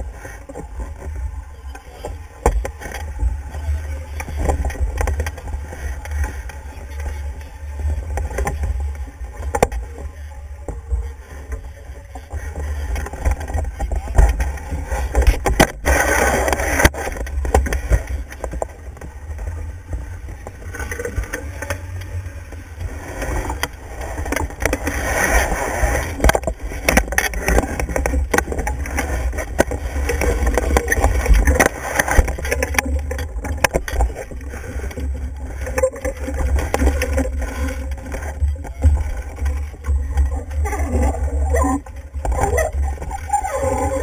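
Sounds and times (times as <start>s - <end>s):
wind rumbling on microphone: 0.0s - 44.0s.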